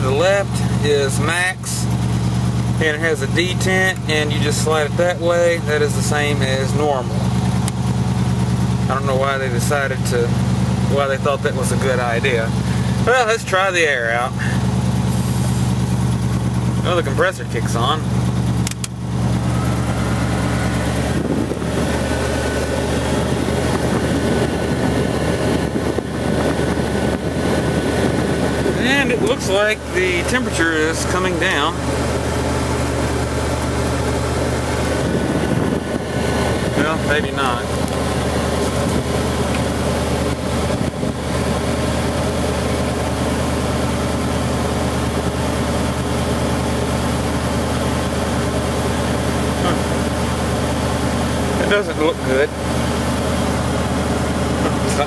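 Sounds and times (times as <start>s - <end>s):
blower fan running: 0.0s - 55.0s
car engine idling: 0.0s - 55.0s.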